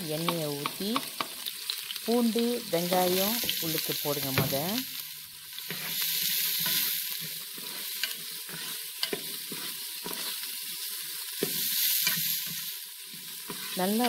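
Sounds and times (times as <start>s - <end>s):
onion sizzling in oil: 0.0s - 14.0s.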